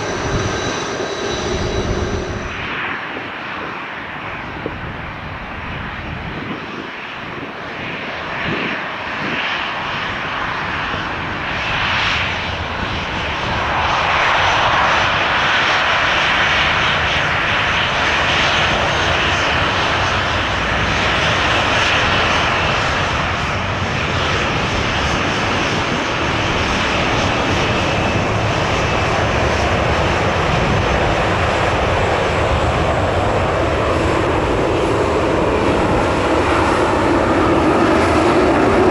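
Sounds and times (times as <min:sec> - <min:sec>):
airliner engines roaring: 0:00.0 - 0:38.9.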